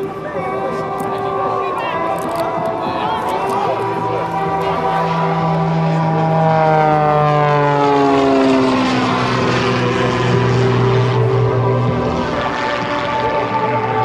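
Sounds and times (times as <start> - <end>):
propeller plane engine in flight: 0.0 - 14.0.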